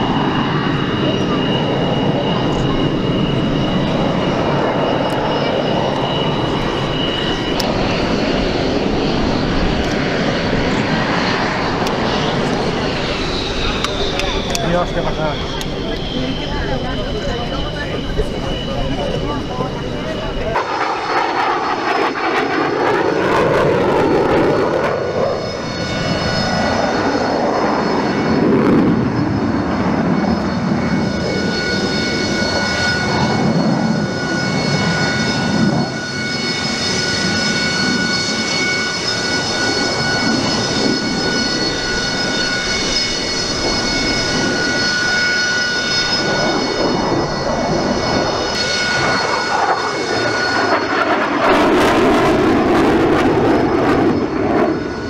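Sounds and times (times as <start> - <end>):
high turbine whine: 0.0 - 55.0
jet engine noise: 0.0 - 55.0.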